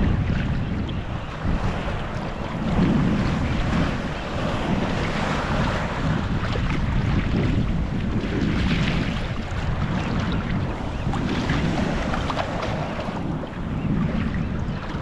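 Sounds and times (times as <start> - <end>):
choppy sea water: 0.0 - 15.0
wind buffeting microphone: 0.0 - 15.0.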